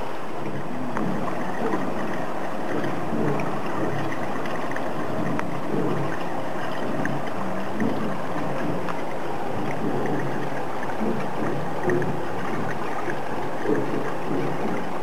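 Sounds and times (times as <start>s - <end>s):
faint water drips: 0.0s - 15.0s
water gurgles: 0.0s - 15.0s
water lapping against pool edge: 0.0s - 15.0s.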